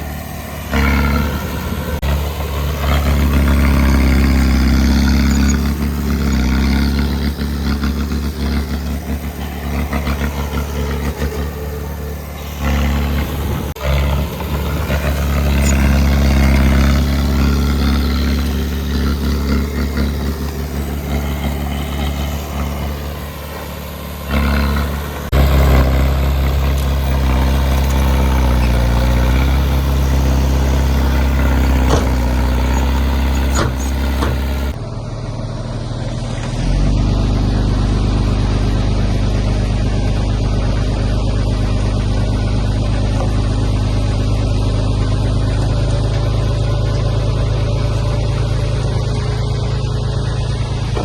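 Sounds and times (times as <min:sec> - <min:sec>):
heavy diesel engines under load: 0:00.0 - 0:51.0.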